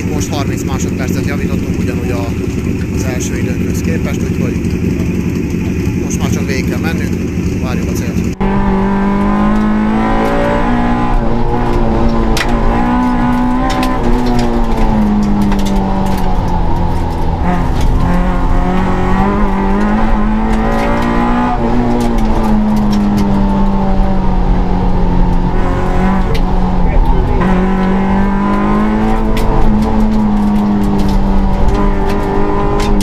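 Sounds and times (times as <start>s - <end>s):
rally car engine from inside cabin: 0.0s - 33.0s.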